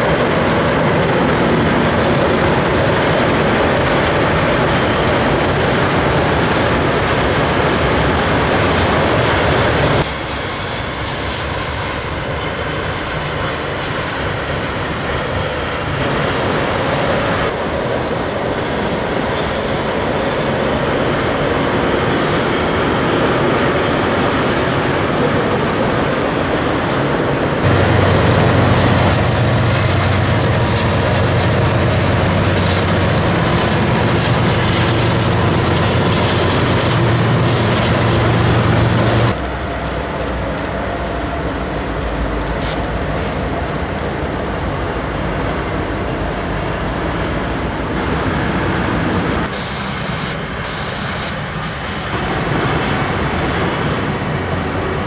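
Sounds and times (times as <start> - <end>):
diesel locomotives rolling: 0.0 - 55.0
freight train rumbling over bridge: 0.0 - 55.0.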